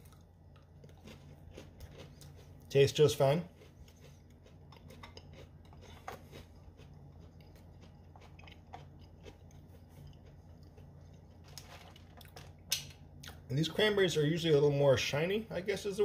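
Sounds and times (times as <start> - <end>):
chewing and crunching cracker: 0.0 - 13.5.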